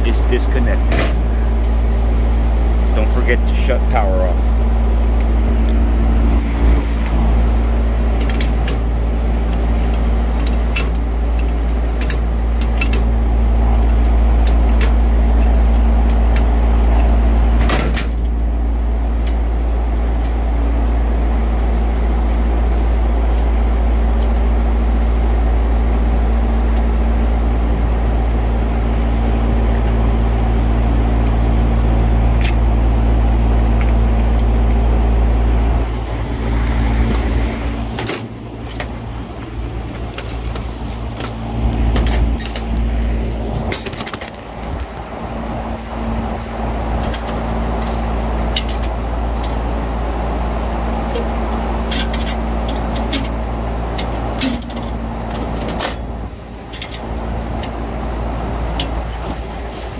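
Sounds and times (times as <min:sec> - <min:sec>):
machinery humming: 0:00.0 - 0:59.9.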